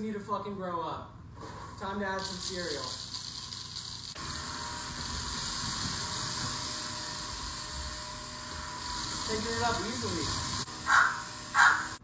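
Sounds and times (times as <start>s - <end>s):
stick vacuum running: 1.8s - 12.0s.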